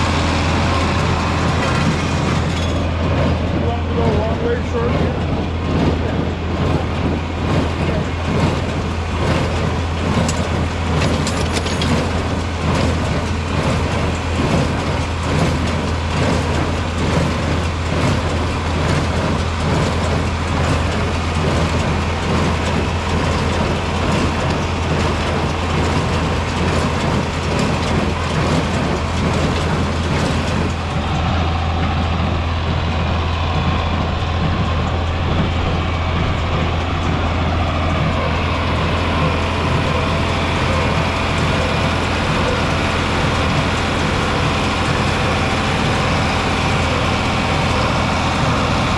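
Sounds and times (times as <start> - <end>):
hay baler clattering: 0.0 - 48.9
tractor engine running: 0.0 - 48.9.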